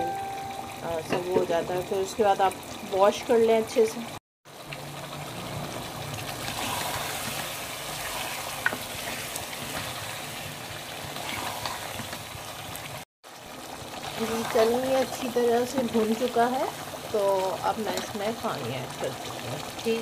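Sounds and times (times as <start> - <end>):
curry sizzling in a pot: 0.0 - 20.0.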